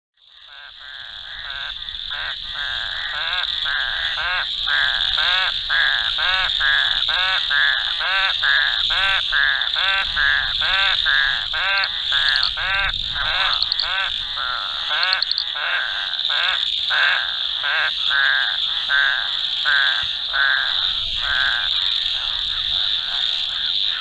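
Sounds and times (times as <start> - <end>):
frogs croaking: 0.2 - 24.0
frogs trilling: 0.2 - 24.0.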